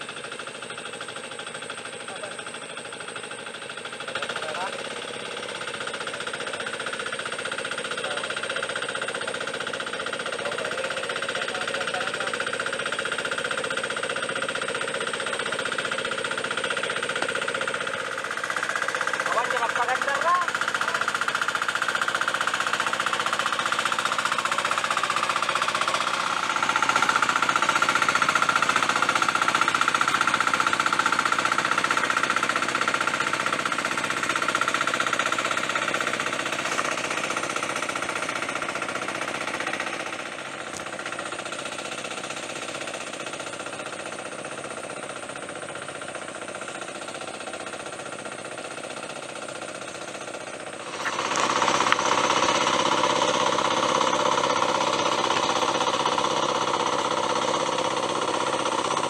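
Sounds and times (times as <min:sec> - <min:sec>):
hand tractor engine running: 0:00.0 - 0:59.0.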